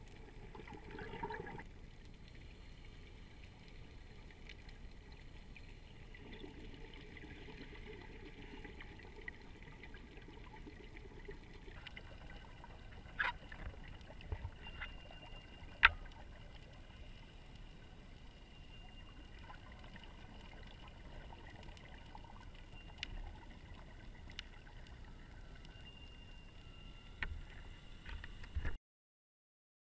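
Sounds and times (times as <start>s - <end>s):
muffled underwater hiss: 0.0s - 28.7s.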